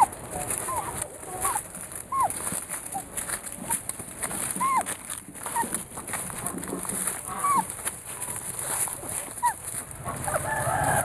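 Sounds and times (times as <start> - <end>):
puppies squeaking: 0.0 - 10.4
rustling on tarp and leaves: 0.0 - 11.0.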